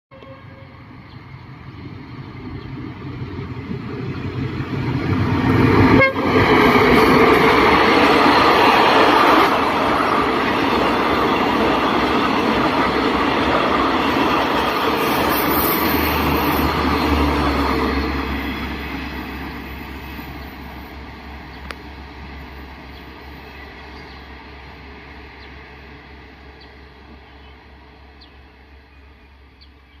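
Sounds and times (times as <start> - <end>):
train passing: 0.1 - 30.0.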